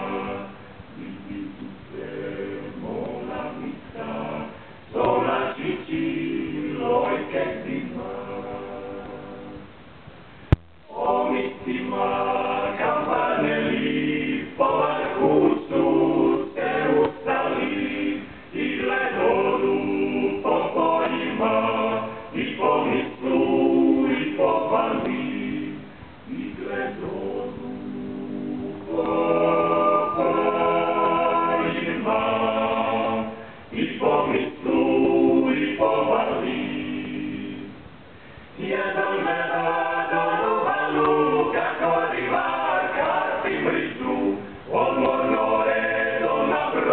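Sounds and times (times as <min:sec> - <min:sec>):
men singing in harmony: 0:00.0 - 0:09.6, 0:10.9 - 0:37.8, 0:38.6 - 0:46.9.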